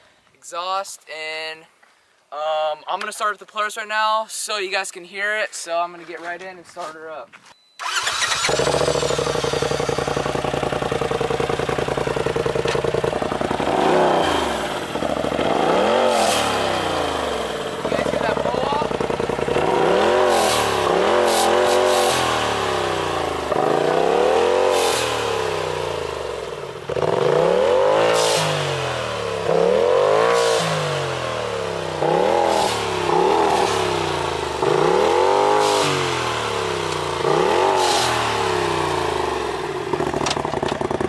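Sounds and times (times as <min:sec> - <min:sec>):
engine revving: 0:07.8 - 0:41.0.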